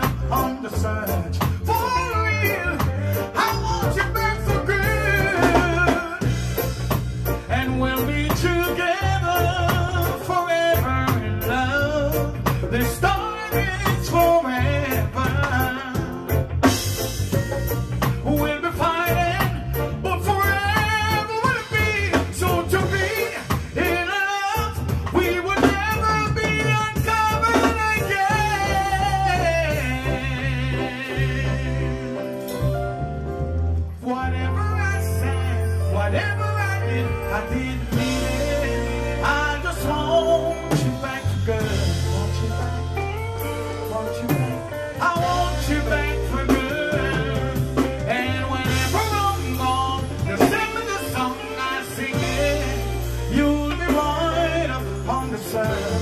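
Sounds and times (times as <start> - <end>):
man singing reggae into microphone: 0.0 - 32.8, 33.9 - 56.0
drums: 0.0 - 56.0
electric bass guitar: 0.0 - 56.0.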